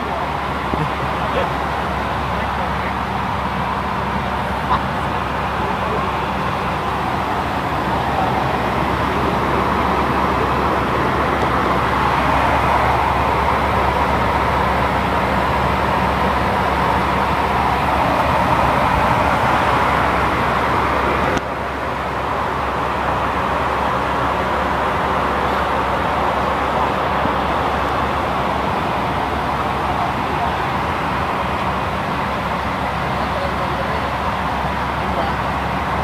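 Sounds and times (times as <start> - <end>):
rushing air: 0.0 - 33.1
plane engines droning: 0.0 - 36.0.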